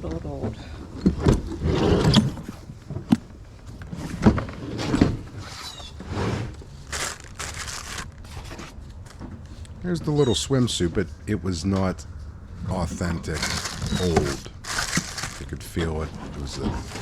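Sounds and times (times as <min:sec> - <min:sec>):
rustling and crinkling: 0:00.0 - 0:17.0.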